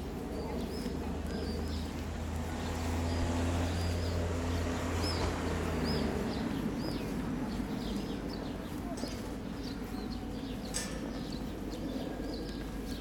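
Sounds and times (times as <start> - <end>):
low engine hum: 0.0 - 13.0
small birds chirping: 0.0 - 13.0.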